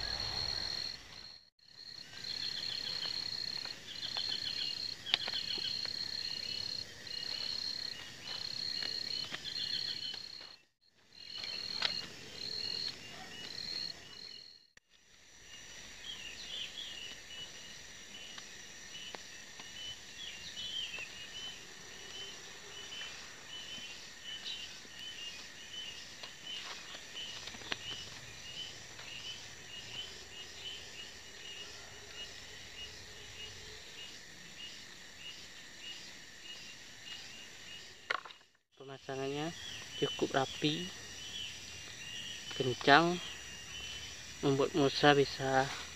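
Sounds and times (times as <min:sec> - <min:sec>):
insects buzzing and chirping: 0:00.0 - 0:45.9.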